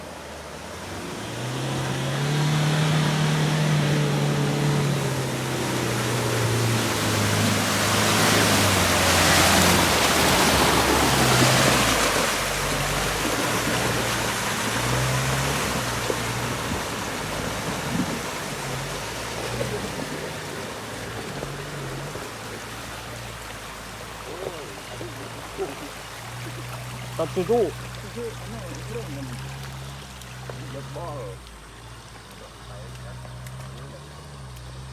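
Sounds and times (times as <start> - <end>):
pickup engine revving: 0.0 - 34.9
rushing water-like noise: 0.0 - 34.9.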